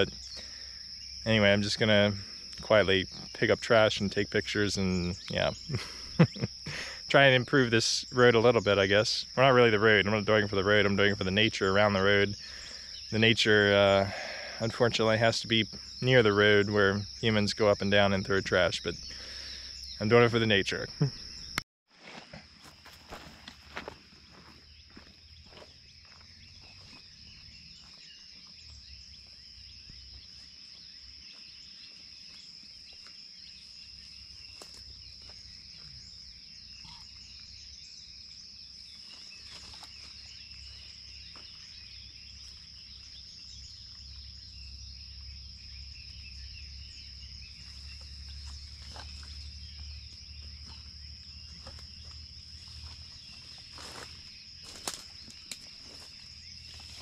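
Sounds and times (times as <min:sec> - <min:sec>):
high-pitched insect drone: 0:00.0 - 0:21.6, 0:23.8 - 0:57.0.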